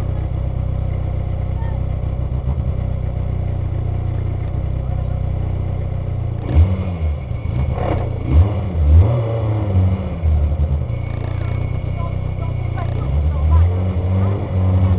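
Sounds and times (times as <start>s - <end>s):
car engine idling and revving: 0.0s - 14.9s.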